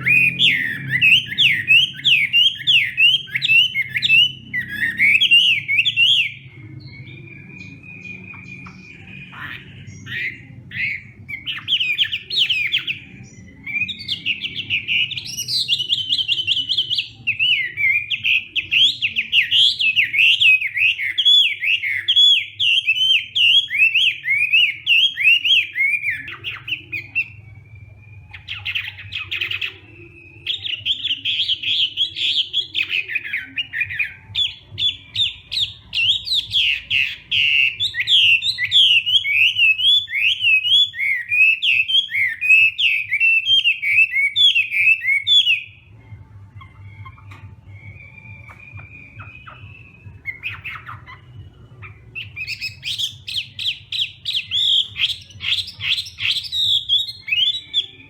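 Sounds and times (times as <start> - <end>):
bird singing whistled phrases: 0.0 - 58.0.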